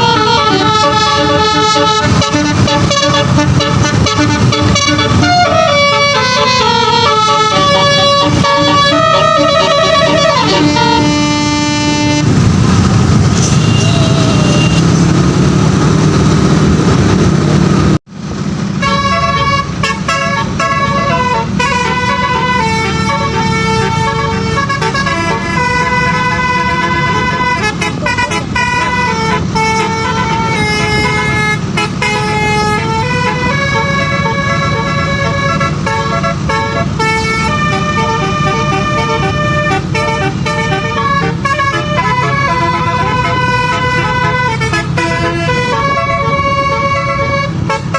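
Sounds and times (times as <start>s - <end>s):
multi-note musical air horn: 0.0s - 12.4s, 18.8s - 47.9s
bus engine and road rumble: 0.0s - 47.9s.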